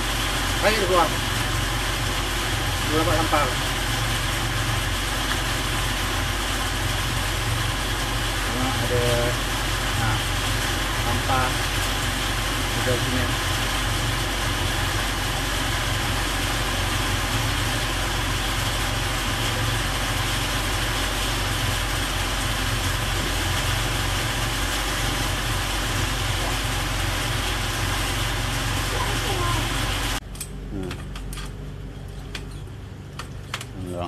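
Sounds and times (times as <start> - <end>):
water jet rushing: 0.0 - 30.2
drain jetting machine engine: 0.0 - 34.0.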